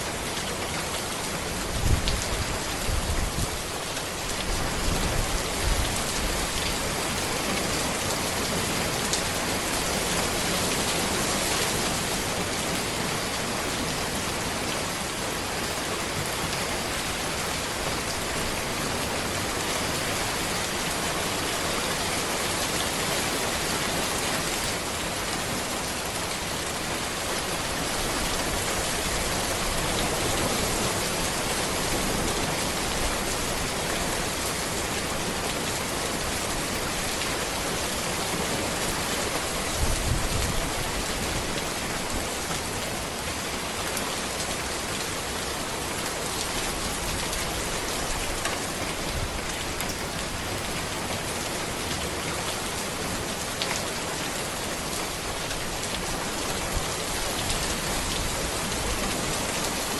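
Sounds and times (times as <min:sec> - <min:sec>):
rain falling on a road: 0:00.0 - 0:59.9.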